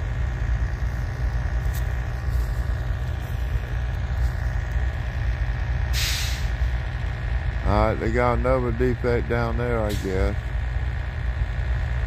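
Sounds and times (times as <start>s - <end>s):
engine idling rumble: 0.0s - 12.0s
faint steady whine: 0.0s - 12.0s.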